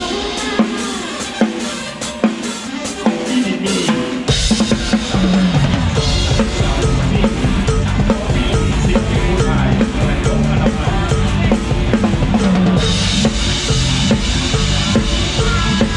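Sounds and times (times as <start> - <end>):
drum and cymbal hits: 0.0 - 15.9
live band music: 0.0 - 15.9.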